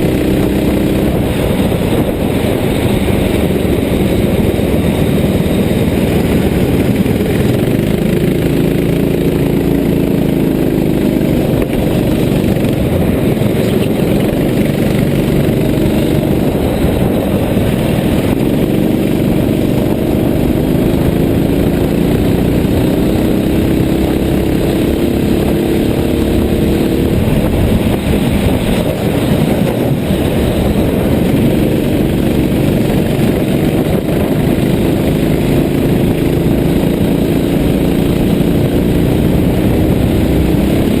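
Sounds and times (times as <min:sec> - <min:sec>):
engine running: 0:00.0 - 0:41.0
steady rushing noise: 0:00.0 - 0:41.0.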